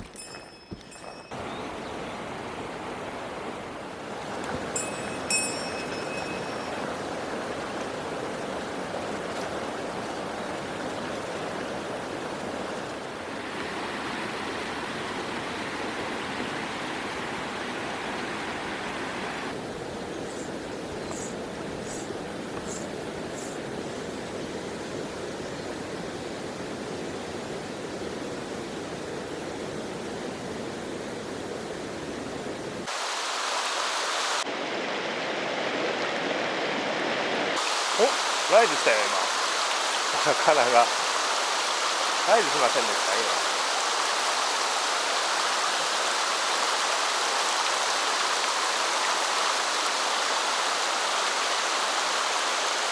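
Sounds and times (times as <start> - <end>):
mountain stream rushing: 0.0 - 26.9, 28.4 - 52.9.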